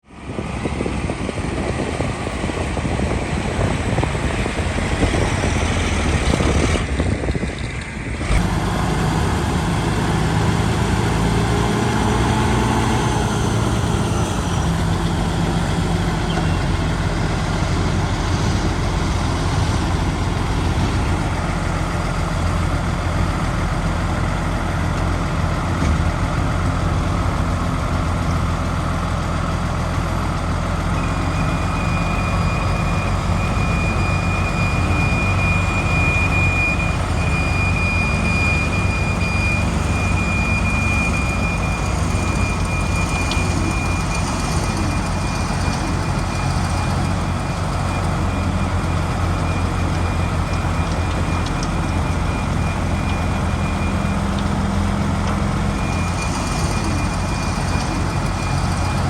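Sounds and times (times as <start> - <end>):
diesel machinery engine rumble: 0.1 - 59.0.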